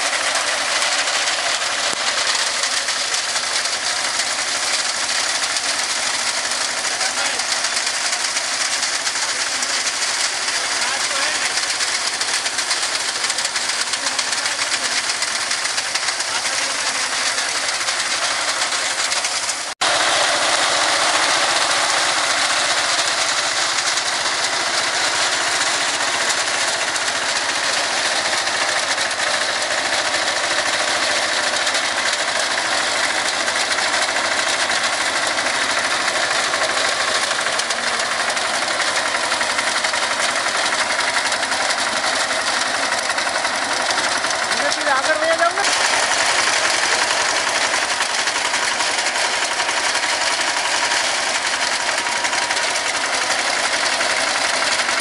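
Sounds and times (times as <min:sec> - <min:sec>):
fast mechanical clatter: 0:00.0 - 0:55.0
tractor engine running: 0:00.0 - 0:55.0.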